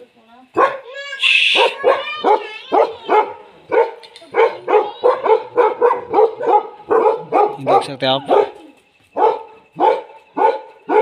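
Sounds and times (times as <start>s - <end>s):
dogs barking: 0.5s - 11.0s.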